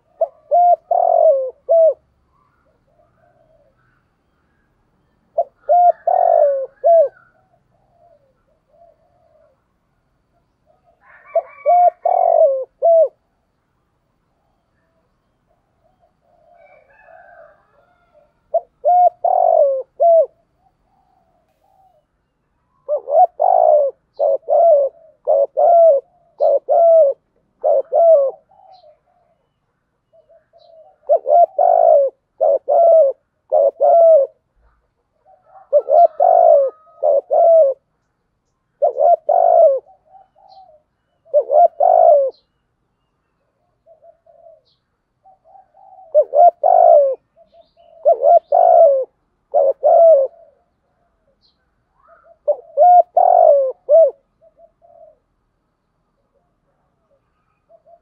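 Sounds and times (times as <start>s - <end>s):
dove cooing: 0.0s - 9.8s, 10.7s - 13.3s, 14.5s - 38.0s, 38.7s - 55.4s, 56.2s - 58.0s.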